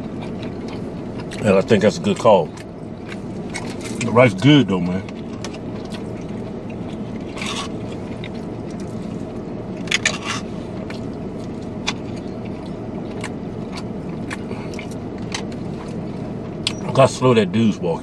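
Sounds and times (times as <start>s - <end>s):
low car cabin hum: 0.0s - 18.0s.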